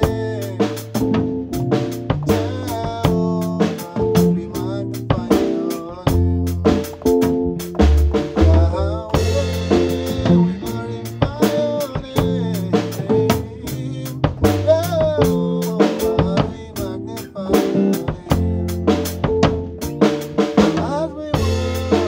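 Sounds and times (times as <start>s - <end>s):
drum kit beat: 0.0s - 22.0s
electric keyboard chords: 0.0s - 22.0s
man singing: 0.0s - 22.0s.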